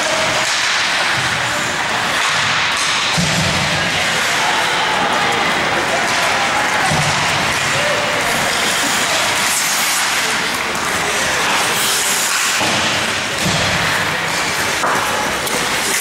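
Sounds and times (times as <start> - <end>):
crowd voices: 0.0 - 16.0
skates on ice: 0.0 - 16.0
sticks hitting puck: 0.0 - 16.0.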